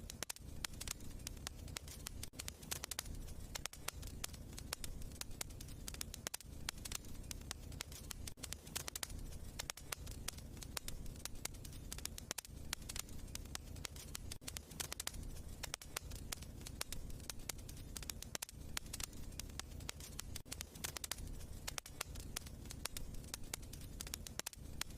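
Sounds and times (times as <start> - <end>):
fire crackling and popping: 0.0 - 24.9.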